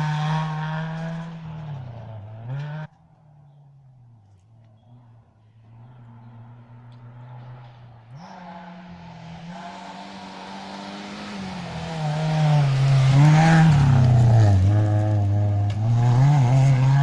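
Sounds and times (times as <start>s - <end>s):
rally car engine approaching: 0.0s - 17.0s.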